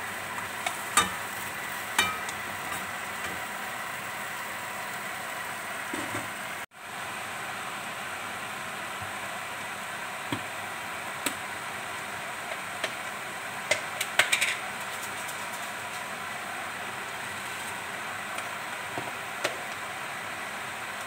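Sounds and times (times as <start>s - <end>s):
stir-fry sizzling in a wok: 0.0s - 21.0s.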